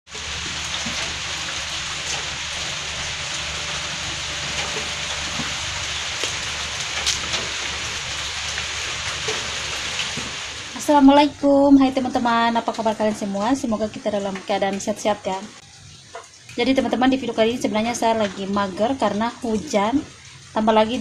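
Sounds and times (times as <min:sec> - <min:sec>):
rain drop ticks: 0:00.1 - 0:21.0
steady rain hiss: 0:00.1 - 0:21.0.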